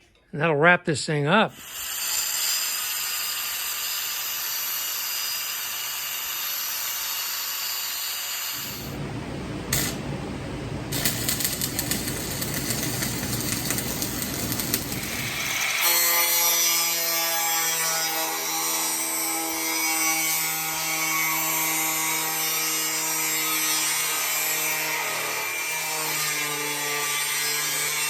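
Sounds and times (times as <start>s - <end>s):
power tool whining on metal siding: 1.6s - 9.0s, 12.0s - 28.0s.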